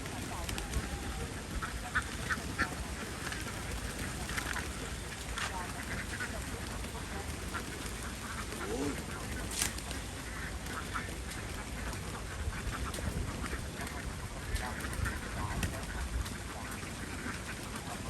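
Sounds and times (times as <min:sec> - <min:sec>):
ducks quacking: 0:00.0 - 0:18.0
steady background noise: 0:00.0 - 0:18.0.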